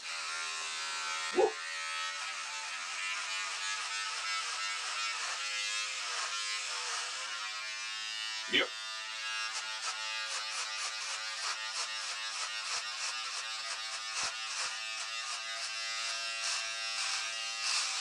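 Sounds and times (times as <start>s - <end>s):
electric shaver buzzing through beard: 0.0s - 18.0s.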